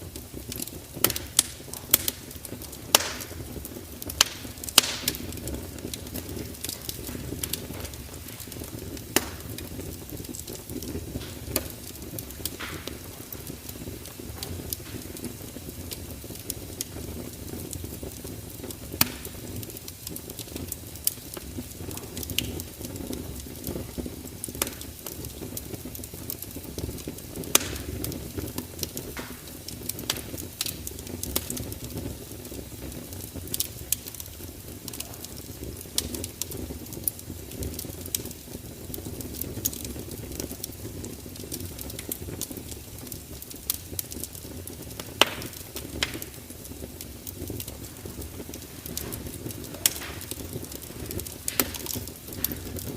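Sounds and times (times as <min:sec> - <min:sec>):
fire crackling and popping: 0:00.0 - 0:52.9.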